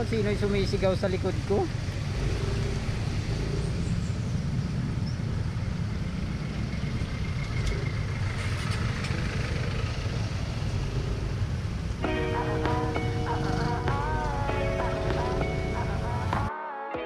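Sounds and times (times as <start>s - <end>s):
faint traffic: 0.0s - 16.5s
scooter engine rumble: 0.0s - 16.5s.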